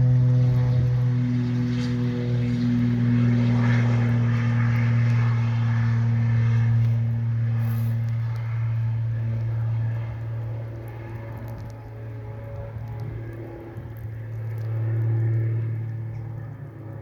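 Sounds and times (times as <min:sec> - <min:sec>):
aircraft engines droning: 0:00.0 - 0:17.0
propeller hum: 0:00.0 - 0:17.0.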